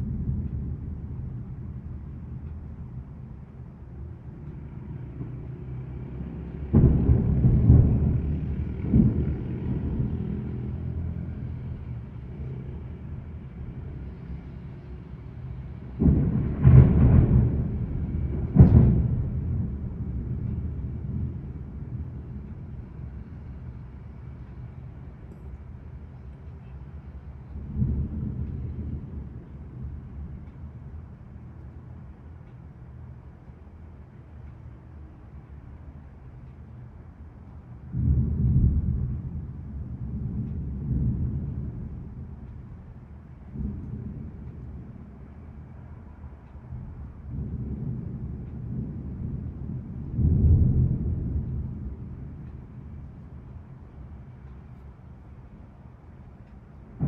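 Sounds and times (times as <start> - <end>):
thunder claps rumbling: 0.0 - 26.2, 26.9 - 32.2, 37.8 - 57.0
storm background noise: 0.0 - 57.0.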